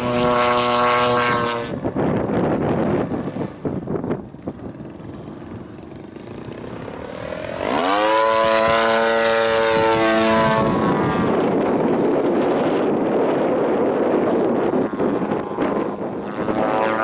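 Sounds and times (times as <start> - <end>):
model plane engine and propeller drone: 0.0 - 17.0
wind buffeting microphone: 0.0 - 17.0.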